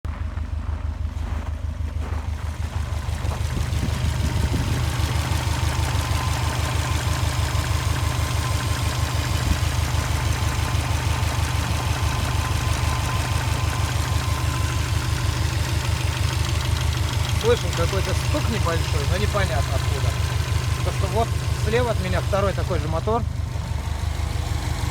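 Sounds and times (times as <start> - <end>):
car engine idling: 0.1 - 24.9
engine knock: 0.1 - 24.9.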